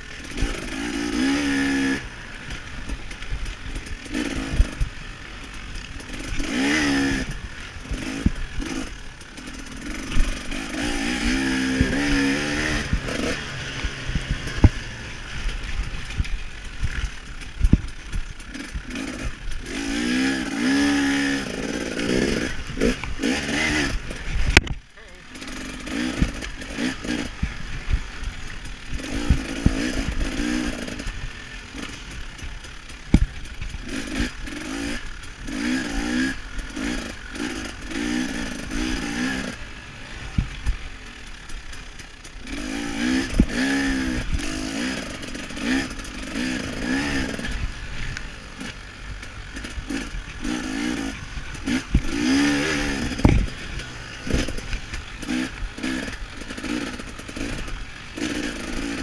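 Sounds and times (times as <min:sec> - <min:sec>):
dirt bike engine revving: 0:00.0 - 0:59.0
knocks and rattles from bike: 0:00.0 - 0:59.0.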